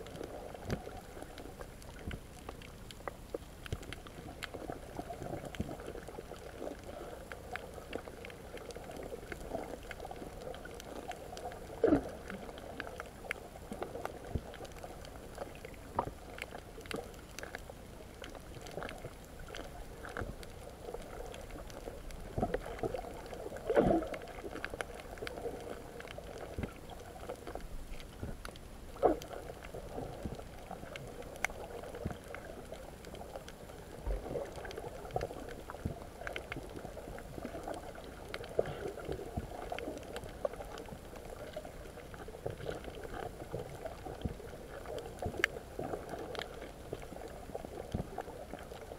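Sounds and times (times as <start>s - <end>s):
underwater bubbling water: 0.0s - 48.9s.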